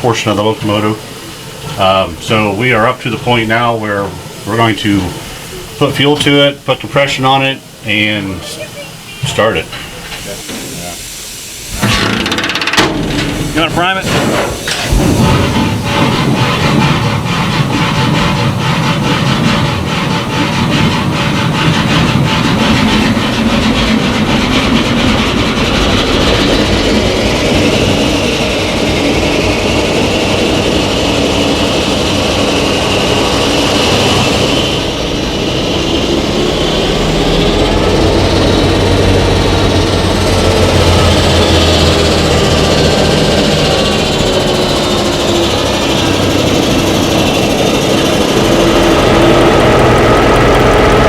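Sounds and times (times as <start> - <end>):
diesel locomotive engine running: 0.0 - 51.0.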